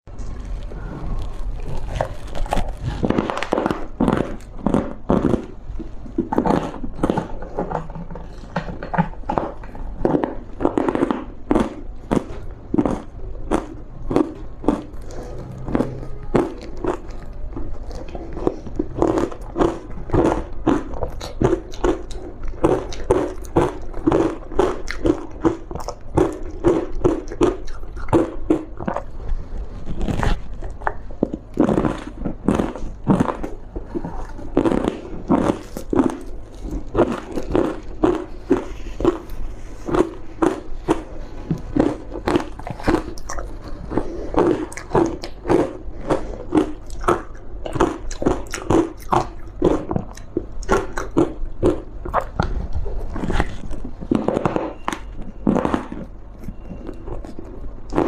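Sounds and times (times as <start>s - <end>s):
chewing crunchy ice: 0.1s - 58.0s.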